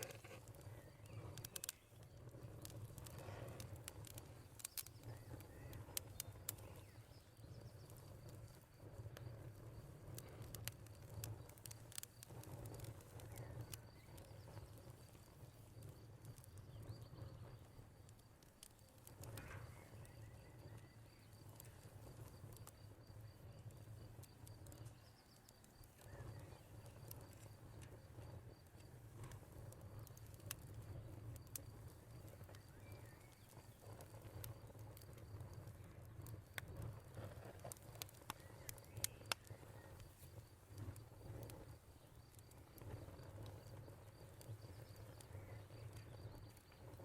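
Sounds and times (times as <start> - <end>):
cricket trill: 0.0 - 47.0
wood fire crackling and popping: 0.0 - 47.0.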